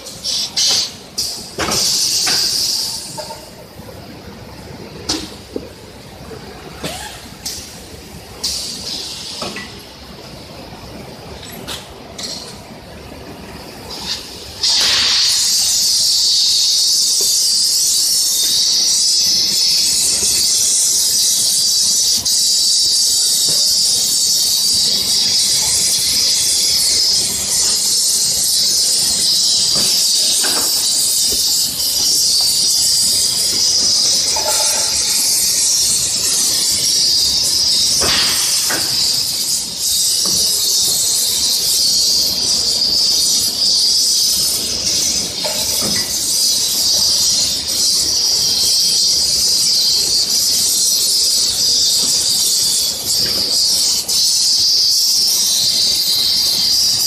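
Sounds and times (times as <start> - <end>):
gas welding torch hissing: 0.0 - 4.1, 6.6 - 57.0.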